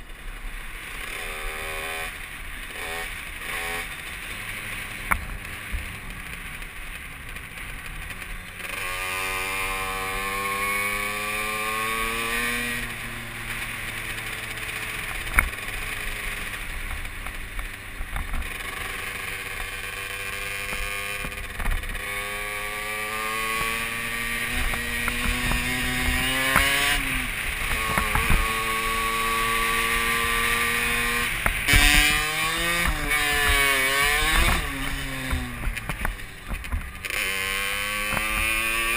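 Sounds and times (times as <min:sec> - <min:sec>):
dirt bike engine revving: 0:00.7 - 0:38.9.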